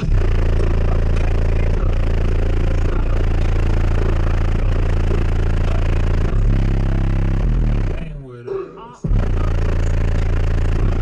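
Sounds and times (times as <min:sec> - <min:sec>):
loud deep subwoofer bass: 0:00.0 - 0:11.0.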